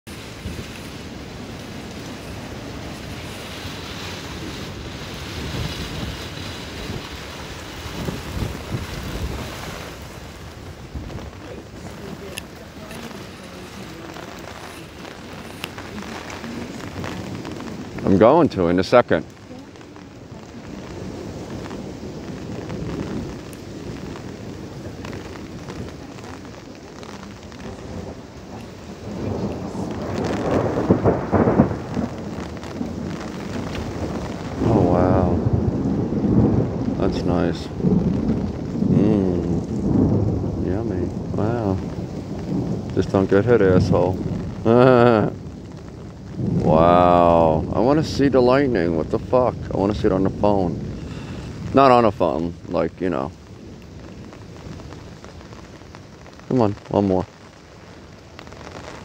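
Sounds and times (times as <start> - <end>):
steady rain falling: 0.0 - 59.0
thunder rolling: 0.1 - 57.3
wind buffeting microphone: 0.1 - 59.0.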